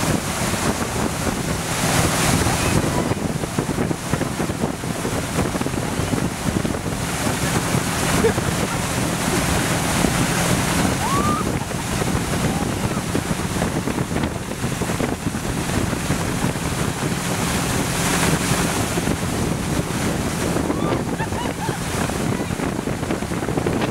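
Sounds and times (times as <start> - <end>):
boat engine humming: 0.0 - 23.9
spray and wake rushing: 0.0 - 23.9
wind buffeting microphone: 0.0 - 23.9.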